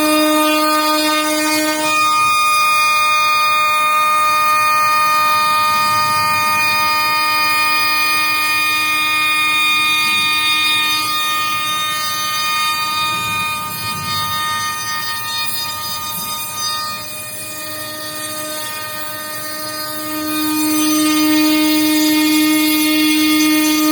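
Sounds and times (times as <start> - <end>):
cnc spindle milling whine: 0.0 - 23.9.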